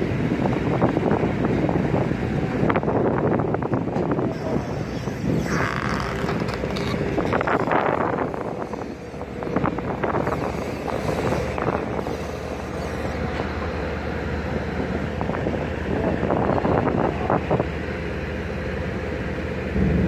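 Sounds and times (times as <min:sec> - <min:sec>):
wind buffeting microphone: 0:00.0 - 0:18.8
boat diesel engine droning: 0:00.0 - 0:20.0.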